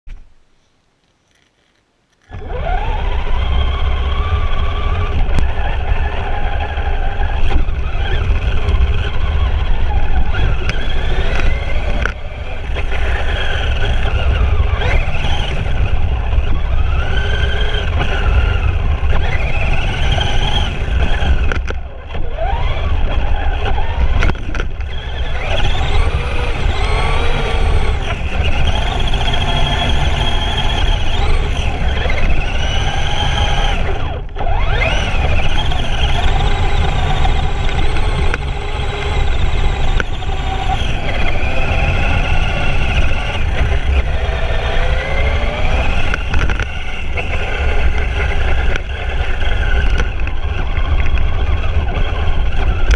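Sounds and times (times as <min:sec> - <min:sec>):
electric motor whining: 0:02.2 - 0:52.9.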